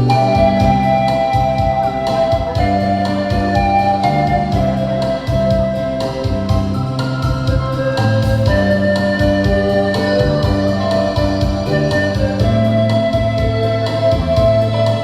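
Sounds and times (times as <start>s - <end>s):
pan flute ensemble melody: 0.0s - 15.0s
steady beat: 0.0s - 15.0s.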